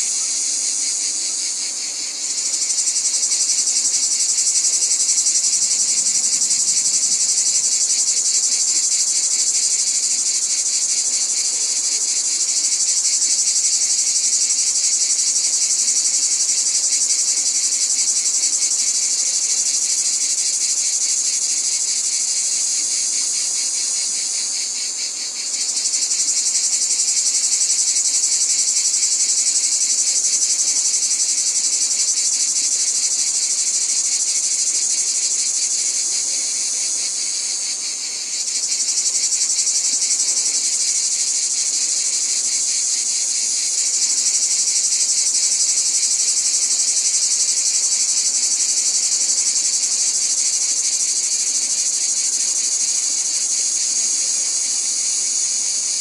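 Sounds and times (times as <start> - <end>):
trilling insects chorus: 0.0 - 56.0.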